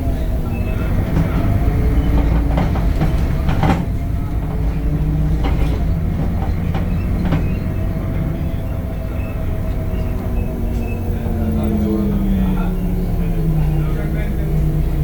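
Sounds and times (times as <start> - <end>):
bus body knocking and rattling: 0.0 - 15.0
bus engine rumble: 0.0 - 15.0.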